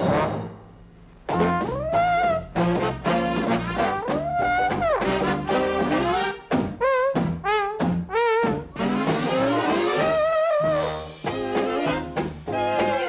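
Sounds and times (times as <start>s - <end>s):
brass-led jazzy dance music: 0.0s - 13.0s.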